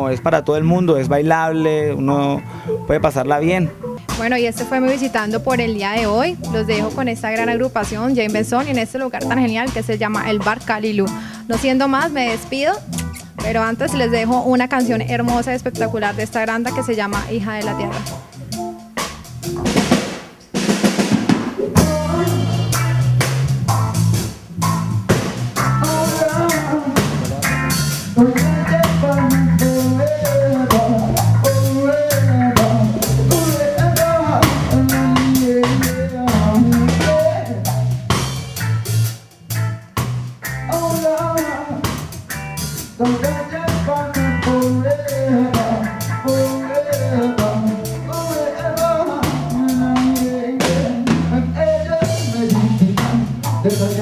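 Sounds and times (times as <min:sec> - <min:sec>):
bass guitar: 0:00.0 - 0:54.0
drum kit: 0:00.0 - 0:54.0
electric guitar: 0:03.6 - 0:20.0, 0:21.3 - 0:54.0.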